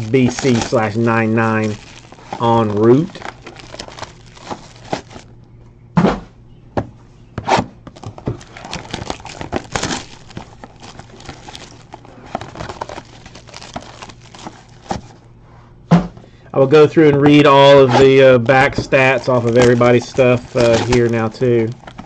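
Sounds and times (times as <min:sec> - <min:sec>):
cardboard boxes rustling: 0:00.0 - 0:05.3, 0:07.9 - 0:15.2, 0:16.9 - 0:22.0
foil packs crinkling: 0:00.0 - 0:05.3, 0:07.9 - 0:15.2, 0:16.9 - 0:22.0.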